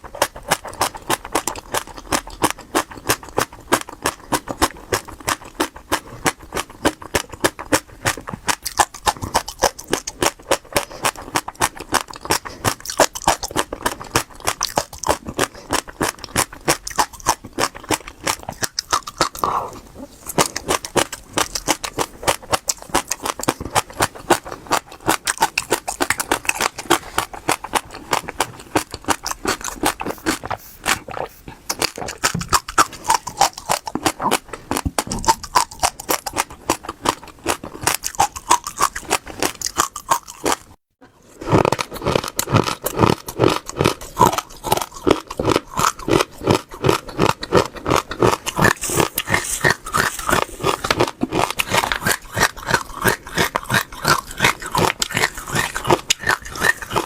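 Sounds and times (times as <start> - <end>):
mouth chewing crunchy seeds: 0.0 - 57.0.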